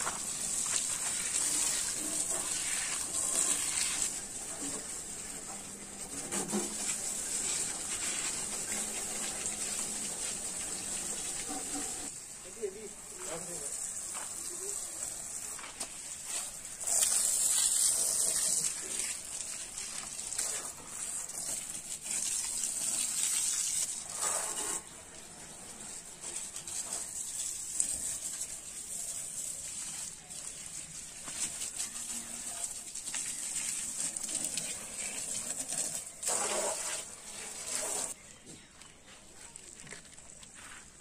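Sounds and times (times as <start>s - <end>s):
hose water spraying and splashing: 0.0s - 38.2s.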